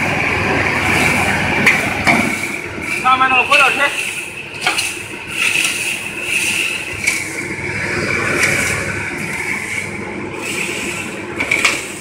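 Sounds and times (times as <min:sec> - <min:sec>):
machine running with high whine: 0:00.0 - 0:12.0.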